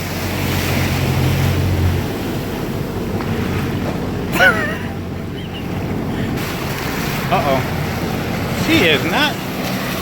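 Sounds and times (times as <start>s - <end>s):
low engine hum: 0.0s - 10.0s
sea water sloshing: 0.0s - 10.0s.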